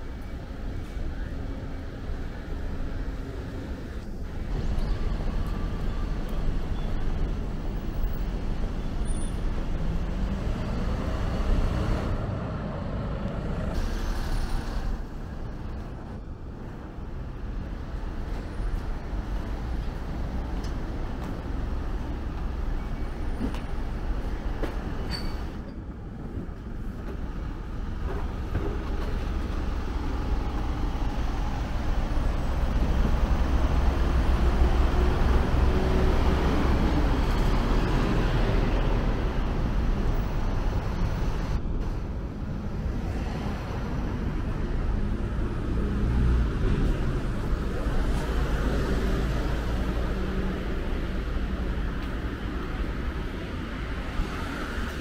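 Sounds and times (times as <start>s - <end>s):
rumble of passing vehicles: 0.0s - 55.0s.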